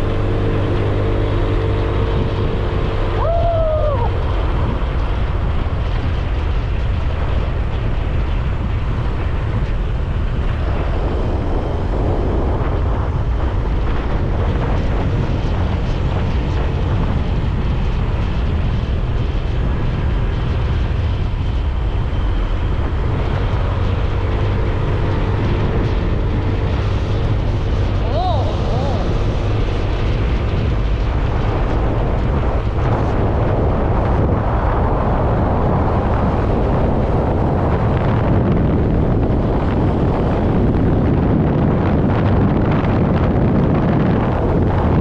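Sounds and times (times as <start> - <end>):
motorcycle engine running: 0.0 - 45.0
wind rushing on microphone: 0.0 - 45.0.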